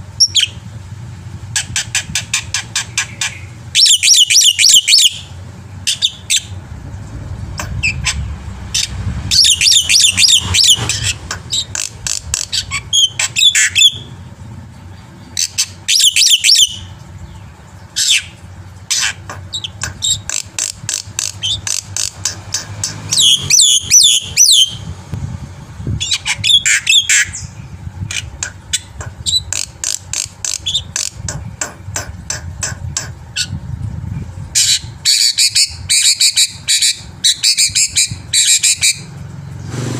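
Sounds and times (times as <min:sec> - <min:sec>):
bird chattering and whistling: 0:00.0 - 0:00.6, 0:01.5 - 0:06.6, 0:07.6 - 0:14.3, 0:14.9 - 0:25.0, 0:25.9 - 0:33.6, 0:34.5 - 0:39.1.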